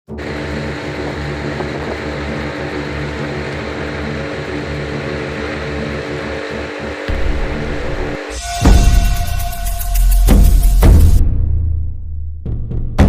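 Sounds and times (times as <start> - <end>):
boat motor drone: 0.1 - 11.2.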